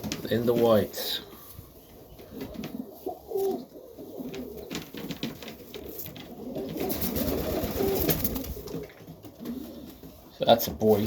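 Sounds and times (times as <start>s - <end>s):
pigeons cooing: 1.0s - 10.4s.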